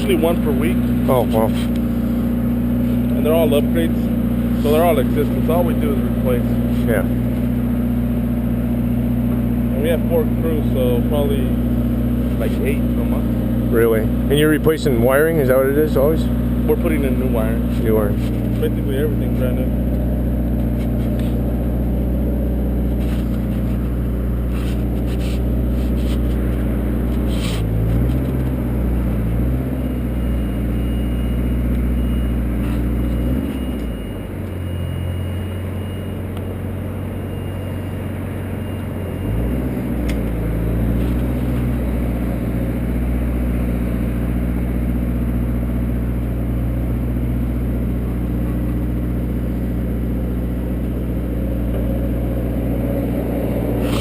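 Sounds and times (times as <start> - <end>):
motor engine running: 0.0 - 54.0.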